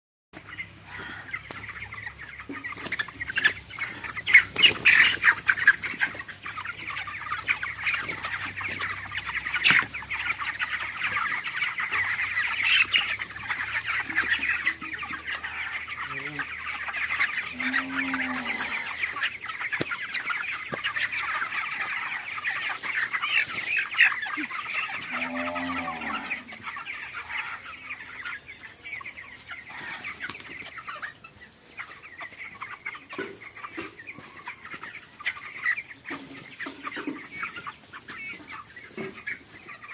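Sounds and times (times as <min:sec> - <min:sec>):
chickens clucking: 0:00.4 - 0:39.9
low drawn-out chicken calls: 0:00.4 - 0:39.9.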